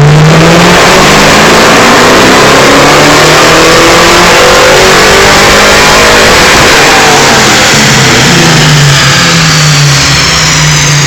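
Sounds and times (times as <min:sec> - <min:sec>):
loud engine revving on dyno: 0:00.0 - 0:11.0.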